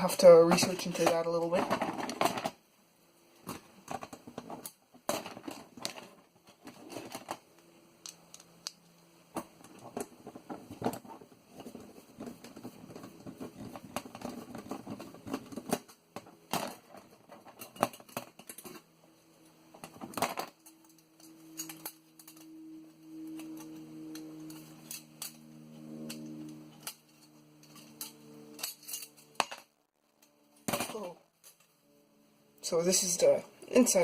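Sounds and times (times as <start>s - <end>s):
clicks and rattles of small parts: 0.1s - 2.6s, 3.4s - 22.6s, 23.2s - 31.8s.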